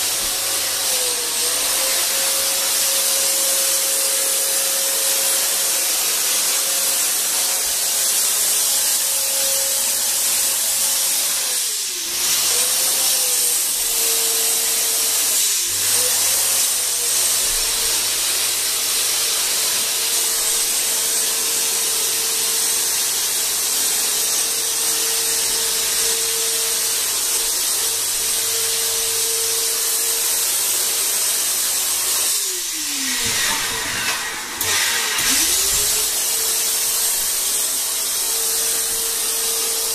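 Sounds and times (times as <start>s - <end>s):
hiss of spray: 0.0s - 39.9s.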